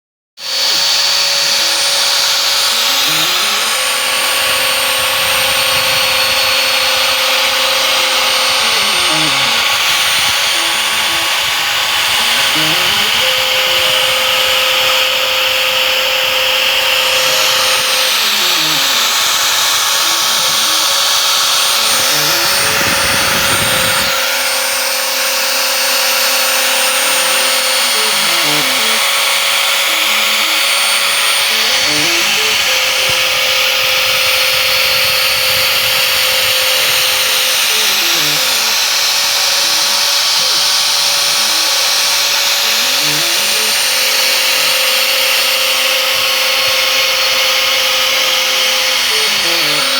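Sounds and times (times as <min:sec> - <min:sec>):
router spindle whining: 0:00.4 - 0:49.9
stepper motors whining: 0:00.4 - 0:49.9.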